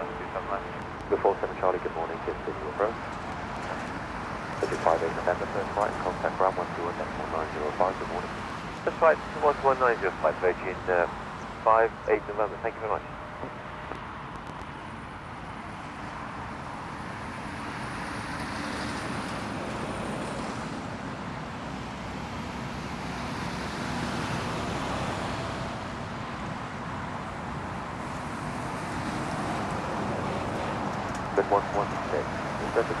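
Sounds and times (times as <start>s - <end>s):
jet airliner engines: 0.0s - 33.0s.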